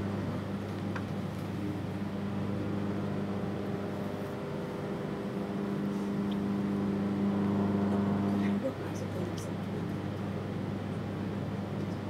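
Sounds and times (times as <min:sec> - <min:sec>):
train carriage hum and rumble: 0:00.0 - 0:12.0.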